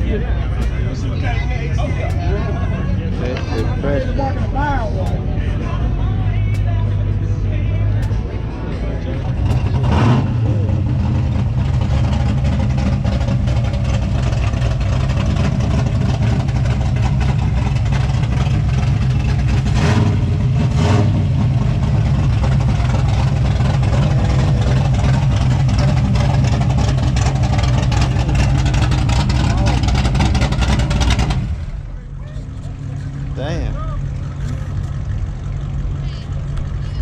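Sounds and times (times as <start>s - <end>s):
car engine deep rumble: 0.0s - 37.0s.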